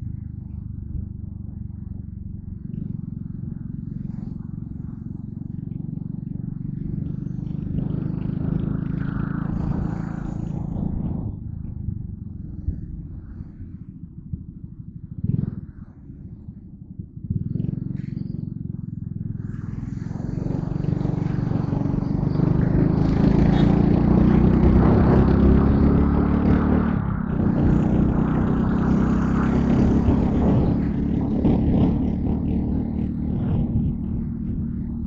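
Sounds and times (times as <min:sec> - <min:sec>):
motorcycle engine revving: 0:00.0 - 0:35.0
wind rushing over microphone: 0:00.0 - 0:35.0.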